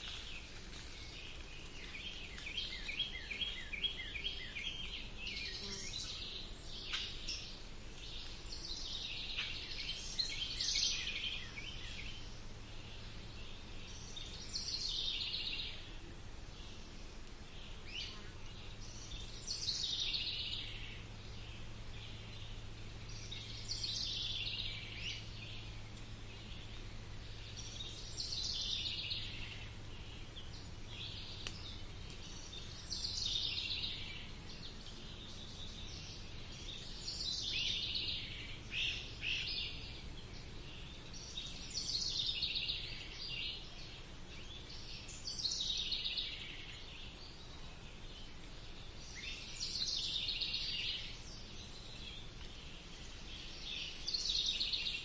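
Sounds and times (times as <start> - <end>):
faint low background noise: 0.0 - 55.0
songbird singing: 0.0 - 55.0.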